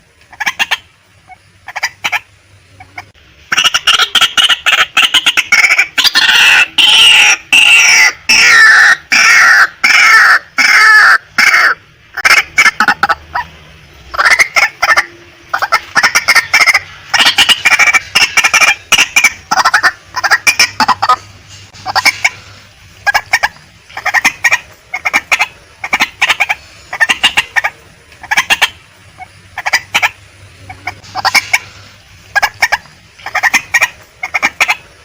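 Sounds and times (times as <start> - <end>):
bird rapid clucking: 0.2 - 35.0.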